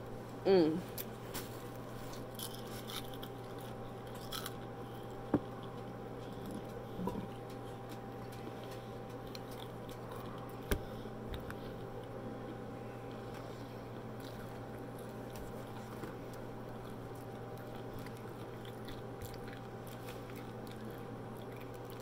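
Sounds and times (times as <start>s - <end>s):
low hum: 0.0s - 22.0s
crunchy chewing: 0.9s - 22.0s.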